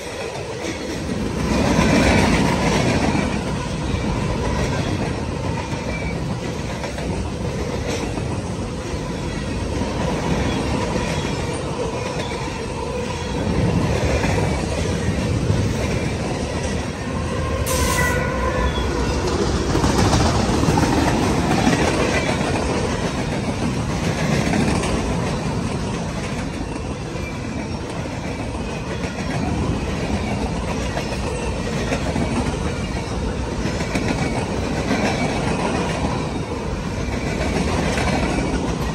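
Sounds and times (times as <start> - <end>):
diesel locomotive passing: 0.0 - 38.9
freight train wheels clattering: 0.0 - 38.9.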